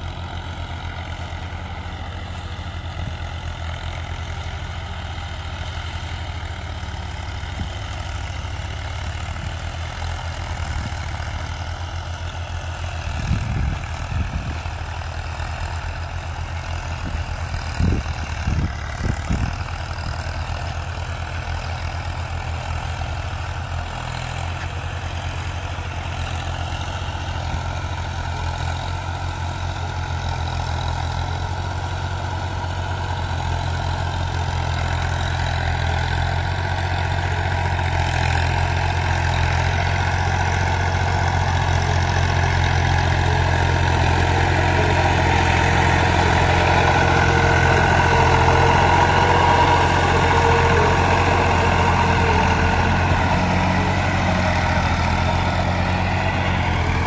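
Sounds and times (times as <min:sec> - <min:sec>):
tractor engines running under load: 0:00.0 - 0:57.0.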